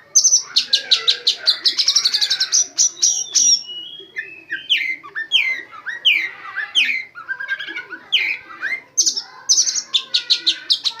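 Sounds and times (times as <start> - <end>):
songbird singing whistled notes: 0.1 - 11.0.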